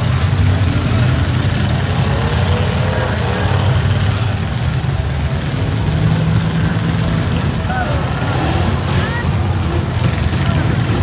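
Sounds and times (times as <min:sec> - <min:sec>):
deep car engines running: 0:00.0 - 0:11.0.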